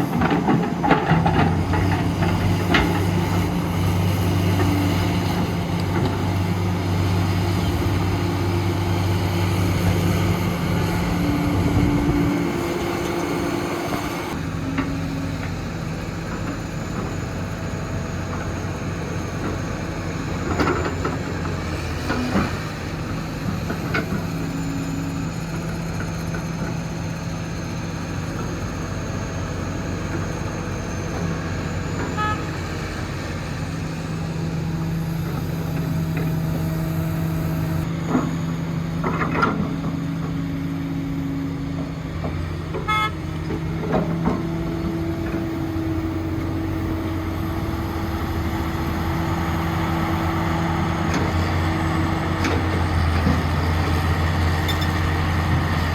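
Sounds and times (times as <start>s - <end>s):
diesel machinery engine running: 0.0s - 55.9s.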